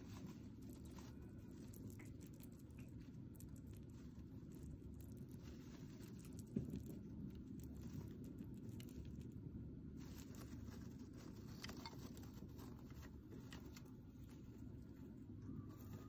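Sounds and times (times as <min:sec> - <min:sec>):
hamster rustling in wood shavings: 0:00.0 - 0:16.0
low steady hum: 0:00.0 - 0:16.0.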